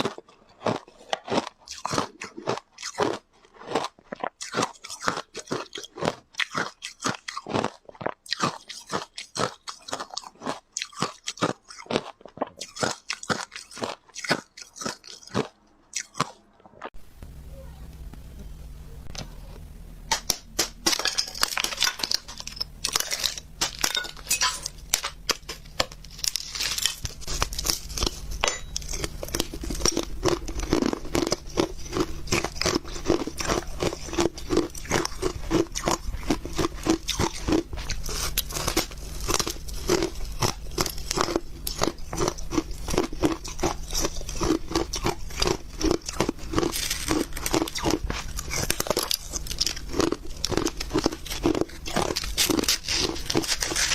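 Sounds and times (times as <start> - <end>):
crunching shaved ice: 0.0 - 16.4, 20.1 - 53.9.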